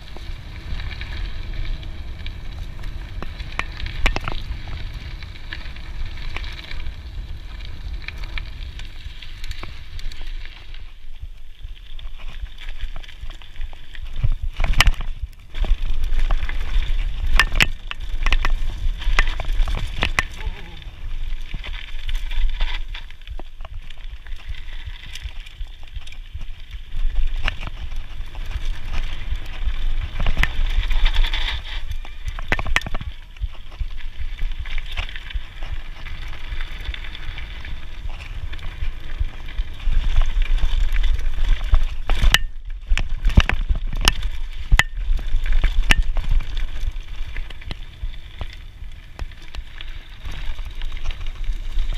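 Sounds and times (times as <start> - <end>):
bike knocking and rattling: 0.0 - 51.9
bike tyres on dirt: 0.0 - 51.9
wind rumble on microphone: 0.0 - 51.9.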